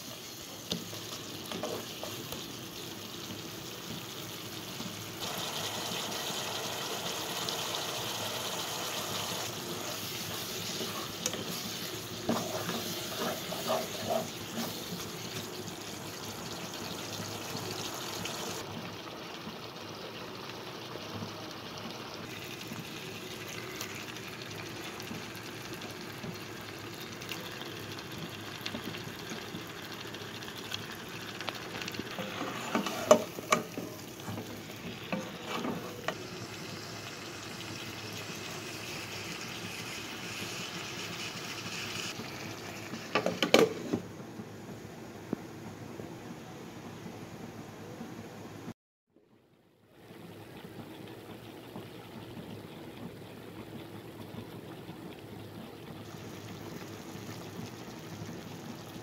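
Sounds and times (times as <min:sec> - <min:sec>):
onion masala sizzling: 0:00.0 - 0:44.0, 0:55.4 - 0:59.0.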